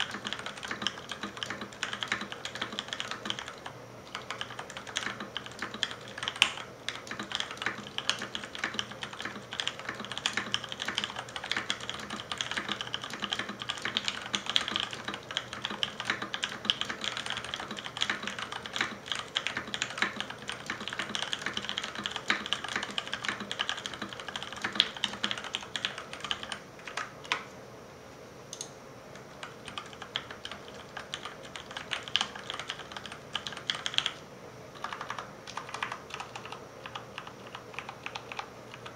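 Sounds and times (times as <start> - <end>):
mechanical keyboard typing: 0.0 - 27.5, 28.5 - 34.2, 34.8 - 38.9.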